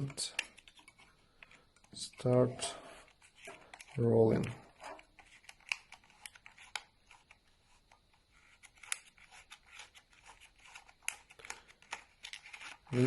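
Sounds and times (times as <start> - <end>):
faint paper scratching: 2.0 - 13.0.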